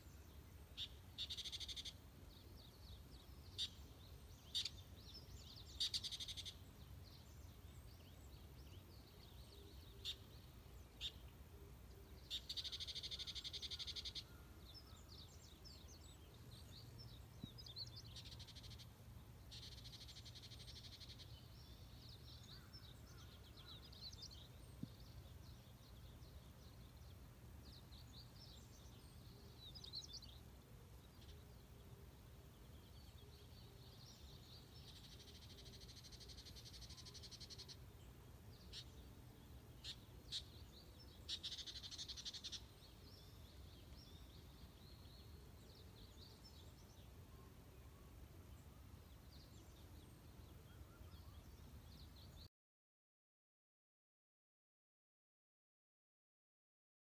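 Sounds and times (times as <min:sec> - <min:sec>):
small birds chirping: 0:00.0 - 0:52.5.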